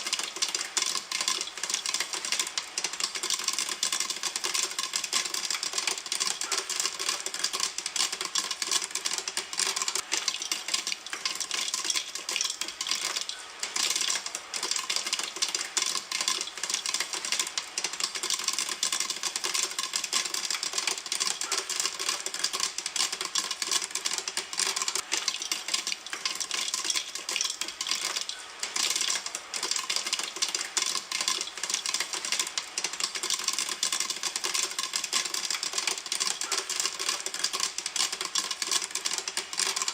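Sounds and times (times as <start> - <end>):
popcorn popping in a pan: 0.0 - 39.9.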